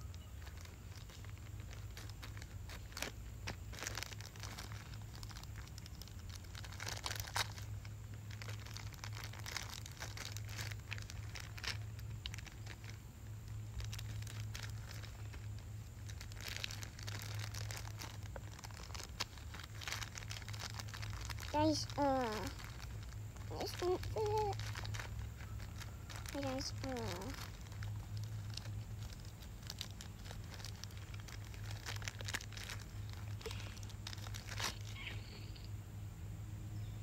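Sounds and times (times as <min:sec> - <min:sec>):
plastic packaging crinkling: 0:00.0 - 0:35.7.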